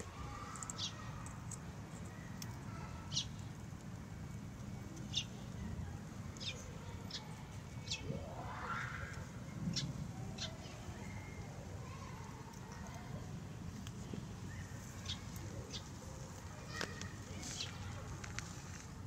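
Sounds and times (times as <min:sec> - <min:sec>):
wild birds chirping: 0:00.0 - 0:03.8, 0:04.6 - 0:13.0, 0:14.4 - 0:18.1
low outdoor background hum: 0:00.0 - 0:19.0.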